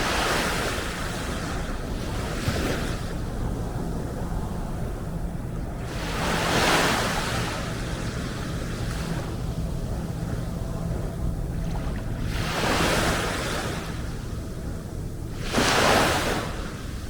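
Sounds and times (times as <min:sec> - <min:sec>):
steady low rumble: 0:00.0 - 0:15.6
waves washing on beach: 0:00.0 - 0:17.0.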